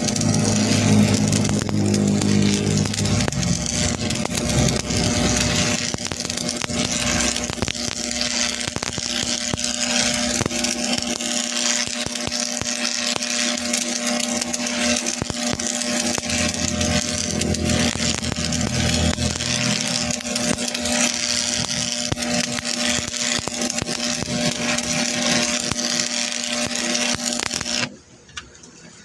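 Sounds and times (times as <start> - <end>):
hiss with crackles: 0.0 - 27.9
machine hum: 0.0 - 28.3.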